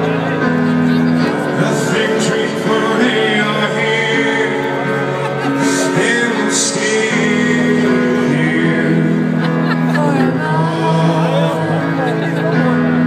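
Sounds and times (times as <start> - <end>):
live rock band playing: 0.0 - 13.0
man singing: 1.2 - 13.0.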